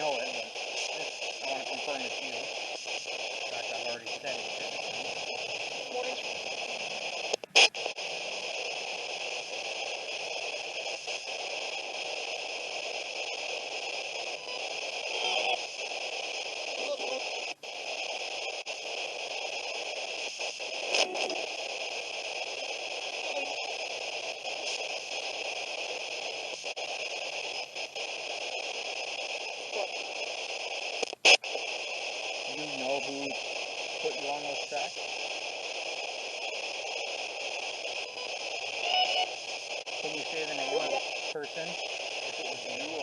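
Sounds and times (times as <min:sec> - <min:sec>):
radio static hiss: 0:00.0 - 0:43.0
static crackle: 0:00.0 - 0:43.0
sharp clicks: 0:00.4 - 0:43.0.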